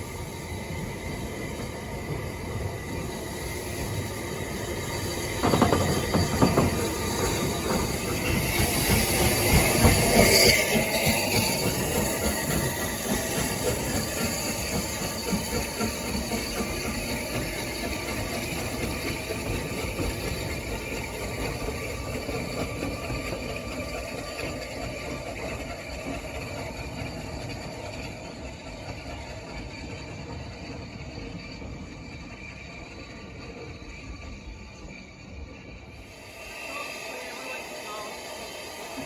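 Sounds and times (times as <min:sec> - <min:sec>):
train running along track: 0:00.0 - 0:39.0.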